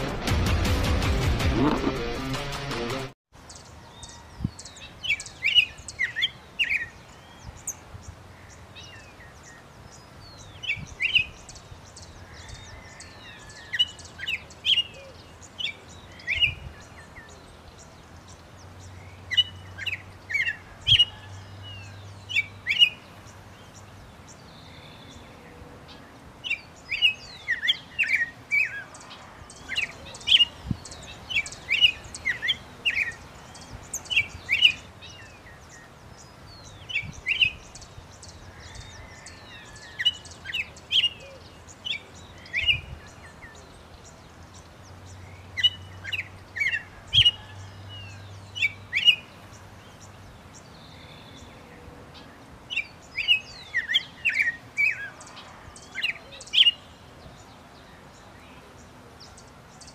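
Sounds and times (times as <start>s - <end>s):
birds chirping: 0.0s - 2.7s, 3.3s - 59.9s.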